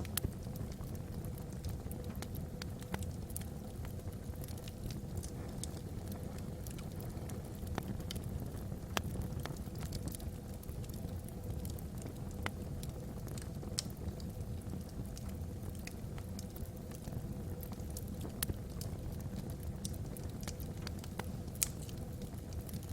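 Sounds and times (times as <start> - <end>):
log fire crackling and popping: 0.0 - 22.9
low fire rumble: 0.0 - 22.9.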